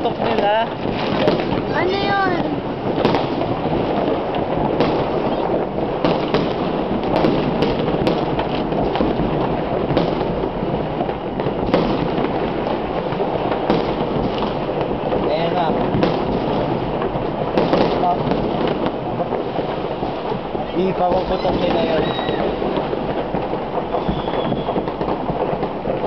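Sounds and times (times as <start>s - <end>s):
fireworks bangs and crackling: 0.0s - 26.0s
sharp single firework reports: 0.0s - 26.0s.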